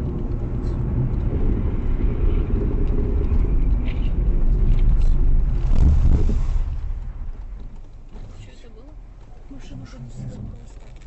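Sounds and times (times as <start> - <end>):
road and wind noise inside car: 0.0 - 11.0.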